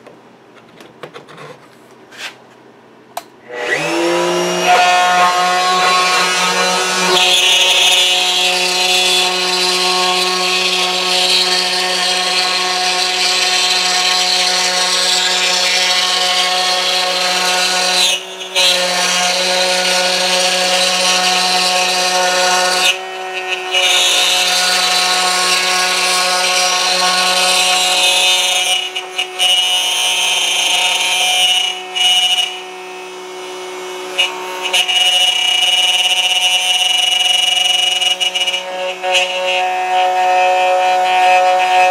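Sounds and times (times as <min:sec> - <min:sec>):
router whining while cutting board: 0:03.4 - 0:41.9.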